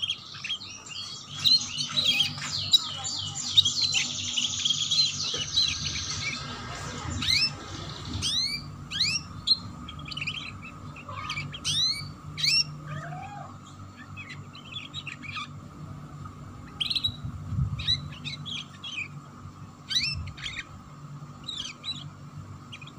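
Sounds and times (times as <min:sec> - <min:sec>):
canary chirping and chattering: 0:00.0 - 0:22.9.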